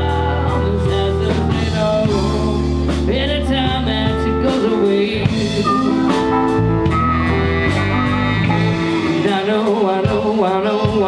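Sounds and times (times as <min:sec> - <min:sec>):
band playing blues-rock: 0:00.0 - 0:11.0.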